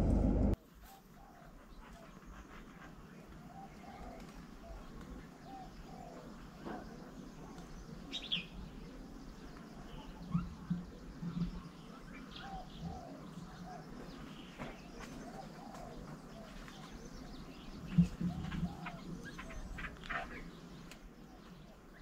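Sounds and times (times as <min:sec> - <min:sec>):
small birds chirping: 0:01.2 - 0:22.0.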